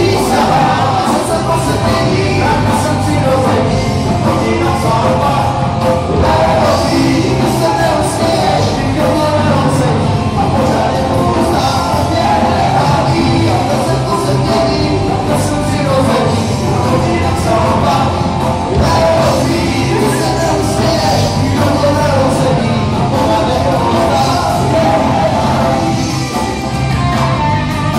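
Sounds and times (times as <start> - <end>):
person singing: 0.0 - 26.8
electric guitar: 0.0 - 27.9
live rock band playing: 0.0 - 27.9.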